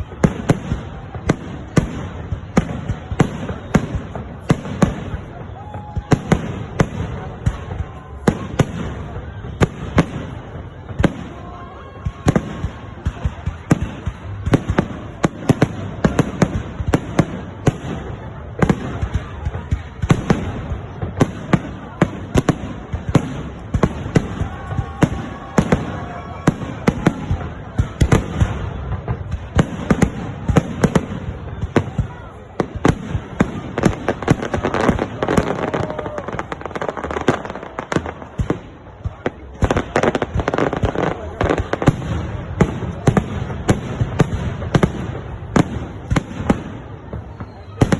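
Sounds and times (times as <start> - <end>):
fireworks bangs: 0.0 - 47.9
fireworks crackling: 0.0 - 47.9.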